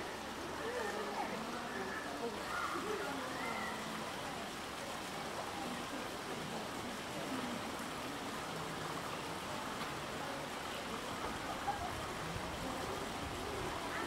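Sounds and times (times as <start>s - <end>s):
faint indistinct voices: 0.0s - 14.0s
running water rushing: 0.0s - 14.0s.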